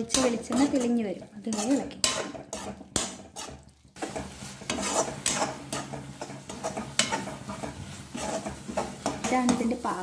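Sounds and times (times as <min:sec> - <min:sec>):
spatula clattering against pan: 0:00.0 - 0:09.8
masala sizzling in oil: 0:00.0 - 0:10.0
metal spatula scraping a pan: 0:00.0 - 0:10.0.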